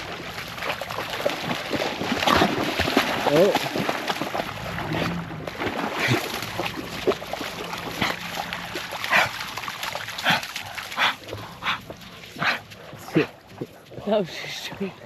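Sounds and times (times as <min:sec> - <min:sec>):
dog splashing through water: 0:00.0 - 0:15.0.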